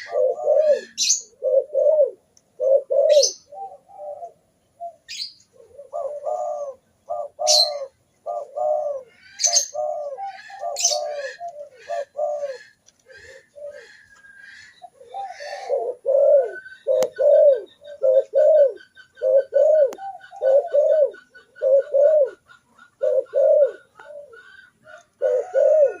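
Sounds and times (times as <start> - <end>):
doves cooing: 0.0 - 26.0
small birds chirping: 0.0 - 26.0.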